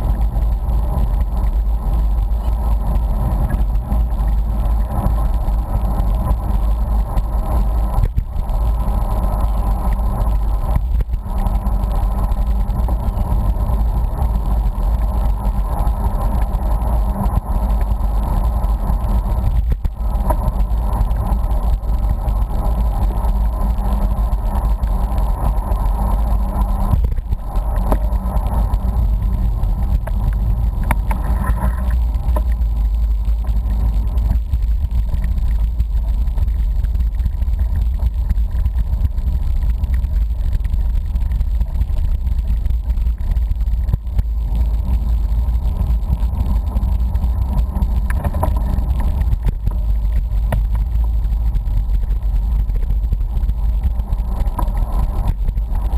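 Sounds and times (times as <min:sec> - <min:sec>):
mid-pitched hum: 0:00.0 - 0:55.9
wind rumble on microphone: 0:00.0 - 0:55.9.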